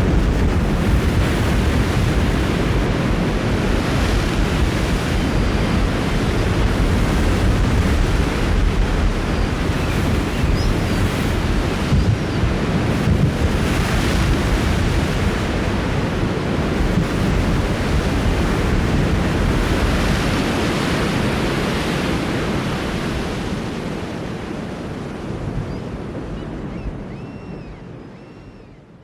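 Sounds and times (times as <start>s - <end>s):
ocean surf washing on beach: 0.0s - 27.1s
wind on microphone: 0.0s - 29.0s.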